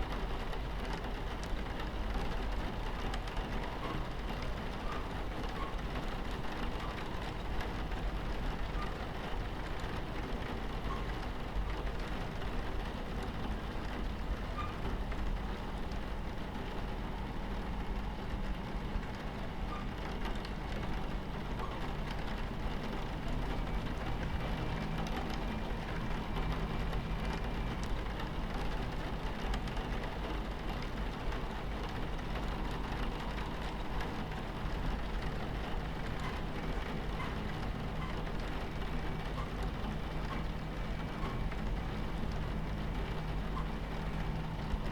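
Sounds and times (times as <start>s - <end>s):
rain pattering on window: 0.0s - 44.9s
train rumbling on tracks: 0.0s - 44.9s.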